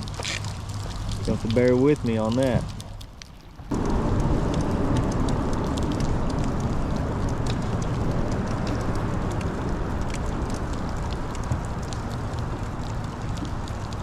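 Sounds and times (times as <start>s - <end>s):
raindrops ticking close: 0.0s - 14.0s
steady rain: 0.0s - 14.0s.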